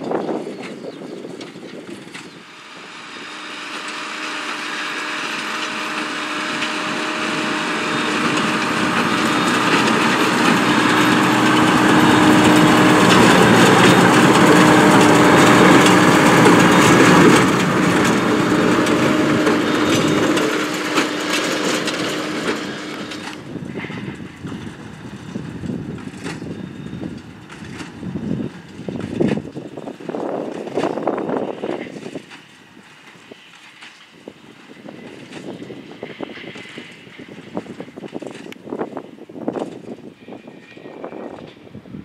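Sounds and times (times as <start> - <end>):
baler hum and rapid clatter: 0.0 - 40.0
tractor diesel engine under load: 0.0 - 40.1.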